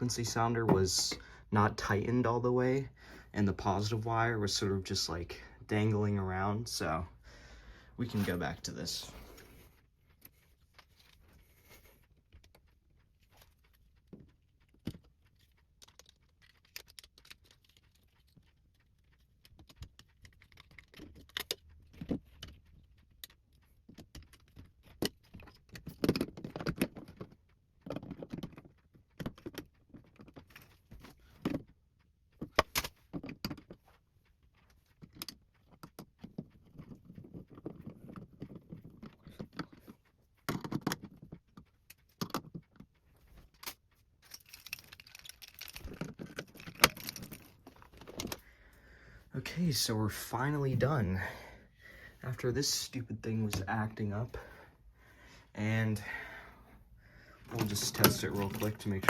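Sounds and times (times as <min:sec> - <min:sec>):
small parts clicking and rattling: 0:08.0 - 0:50.3, 0:52.4 - 0:59.0.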